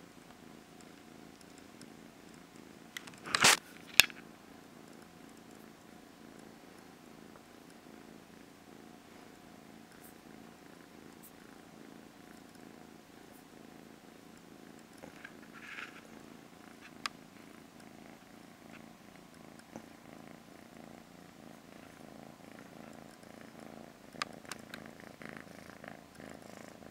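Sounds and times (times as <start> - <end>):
cat purring: 0.0 - 3.4, 4.1 - 26.9.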